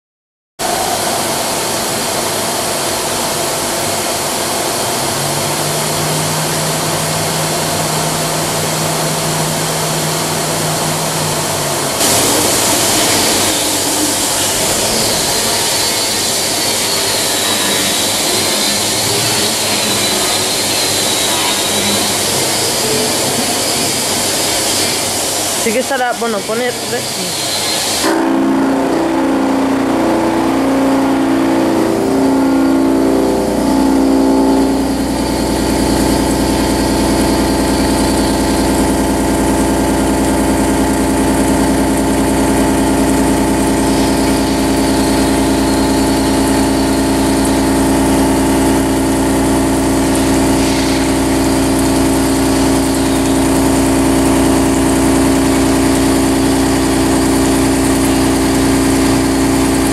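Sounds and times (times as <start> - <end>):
milling machine cutting metal: 0.6 - 59.9.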